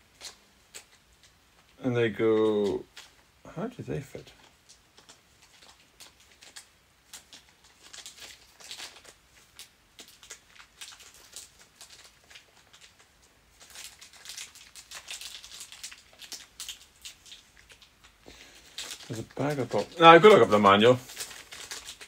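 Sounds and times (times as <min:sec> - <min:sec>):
plastic bag crinkling: 0:04.2 - 0:22.0.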